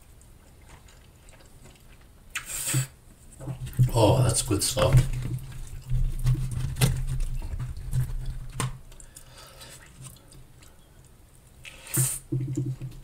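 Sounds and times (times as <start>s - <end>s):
wet chewing of food: 0.0s - 3.9s, 4.8s - 12.6s.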